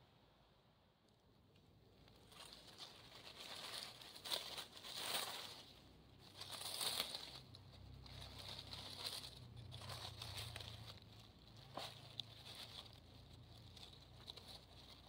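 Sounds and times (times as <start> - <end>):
dry leaves crinkling and rustling: 1.8 - 15.0.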